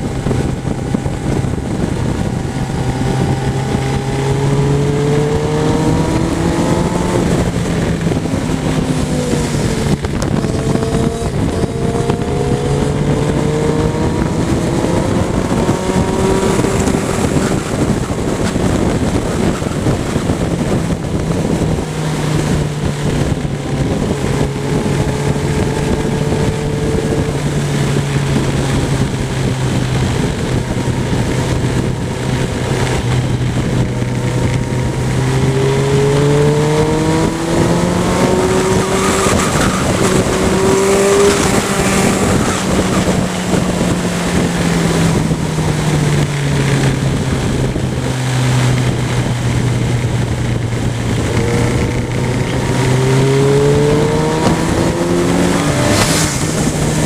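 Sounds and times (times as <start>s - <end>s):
motorcycle engine accelerating: 0.0s - 57.0s
wind noise on microphone: 0.0s - 57.0s.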